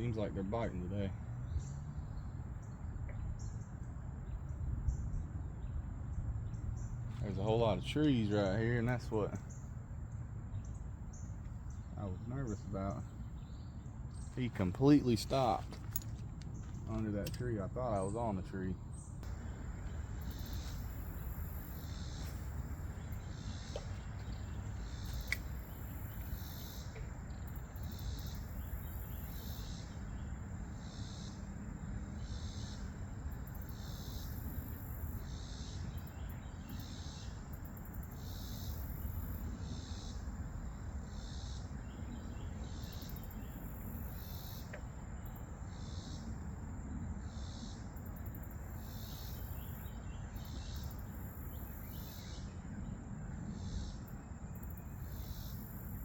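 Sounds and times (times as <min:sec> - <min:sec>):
low steady rumble: 0:00.0 - 0:48.8
insects buzzing: 0:00.0 - 0:56.0.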